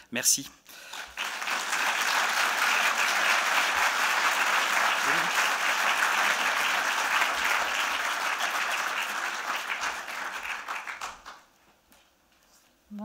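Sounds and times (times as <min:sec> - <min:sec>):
audience applauding: 0:00.8 - 0:11.6.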